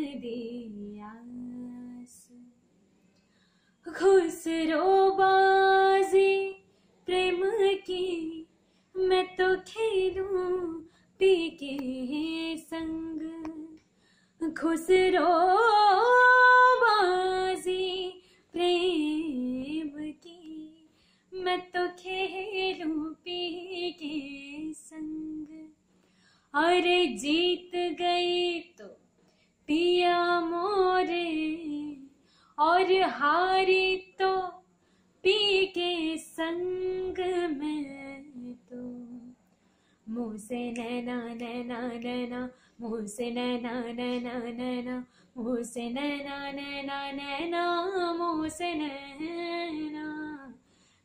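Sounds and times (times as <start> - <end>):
woman singing unaccompanied: 0.0 - 2.6, 3.8 - 13.8, 14.4 - 25.8, 26.5 - 28.9, 29.7 - 34.6, 35.2 - 39.4, 40.1 - 50.6.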